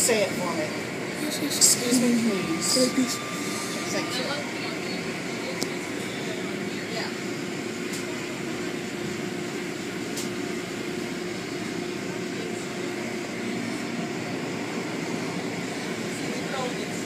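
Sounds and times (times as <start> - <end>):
steady hum: 0.0 - 16.8.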